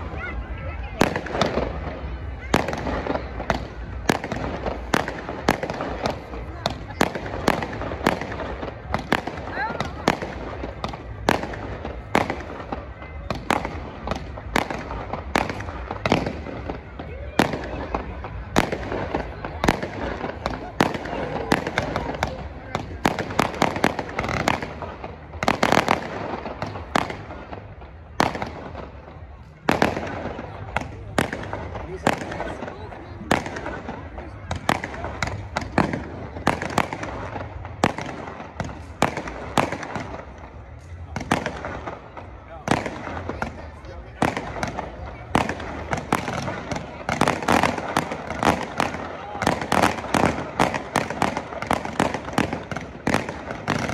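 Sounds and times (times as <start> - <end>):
fireworks bursting with bangs: 0.0 - 53.9
steady background noise: 0.0 - 53.9.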